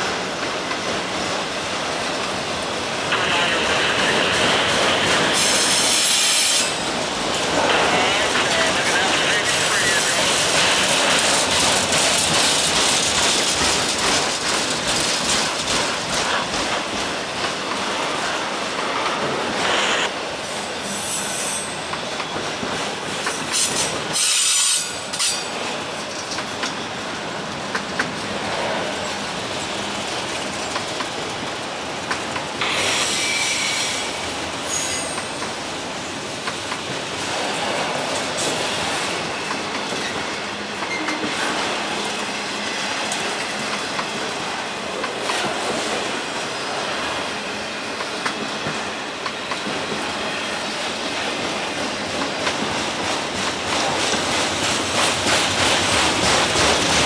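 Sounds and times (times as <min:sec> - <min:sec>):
train wheels rumbling and clicking: 0:00.0 - 0:57.0.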